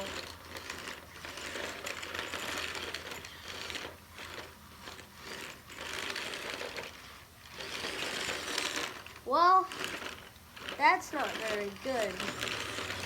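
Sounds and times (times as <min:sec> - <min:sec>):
toy motors whirring and clicking: 0:00.0 - 0:13.0.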